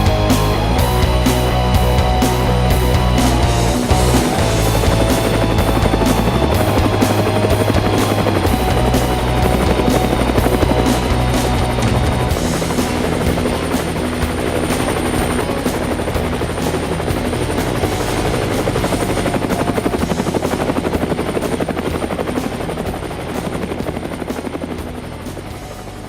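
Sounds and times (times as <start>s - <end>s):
machine running with rapid throb: 0.0s - 26.0s.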